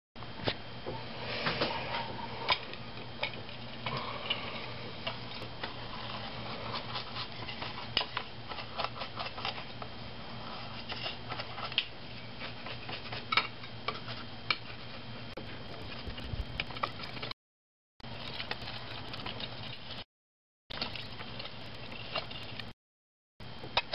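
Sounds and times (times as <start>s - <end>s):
steady low hum: 0.2s - 17.4s, 18.0s - 20.1s, 20.7s - 22.8s.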